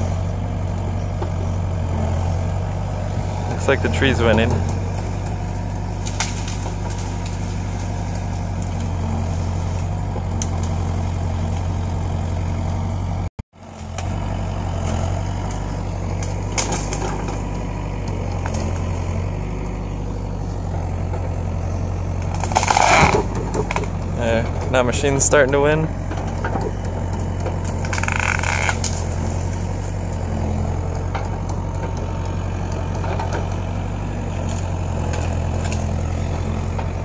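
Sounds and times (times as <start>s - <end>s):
tree crashing: 0.0s - 12.8s, 13.8s - 19.4s, 20.0s - 37.0s
diesel engine under load: 0.0s - 37.0s
wood cracking: 0.3s - 13.1s, 13.7s - 37.0s.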